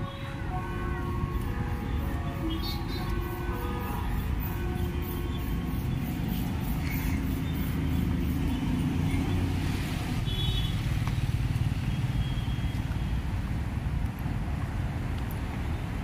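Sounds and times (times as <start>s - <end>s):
rumble of passing cars: 0.0s - 16.0s.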